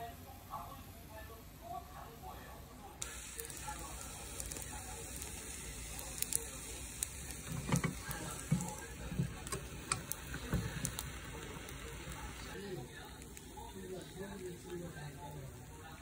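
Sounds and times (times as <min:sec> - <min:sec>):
food sizzling on a hot pan: 0:03.0 - 0:16.0.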